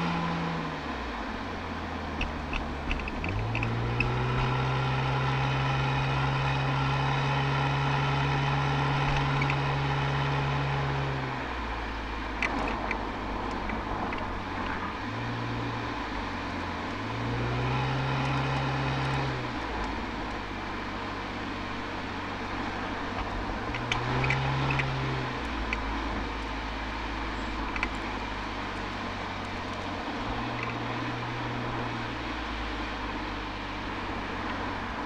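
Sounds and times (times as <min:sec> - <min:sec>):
car exhaust revving: 0:00.0 - 0:35.0.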